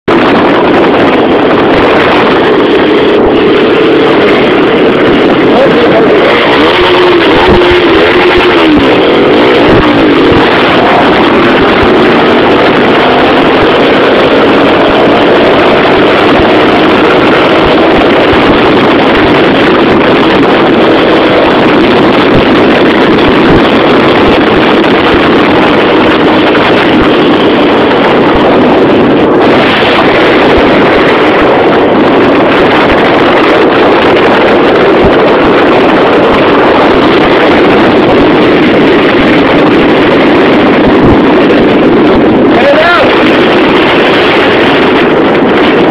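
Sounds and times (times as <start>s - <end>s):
motorcycle engine running hard: 0.0s - 45.9s
wind noise on microphone: 0.0s - 45.9s.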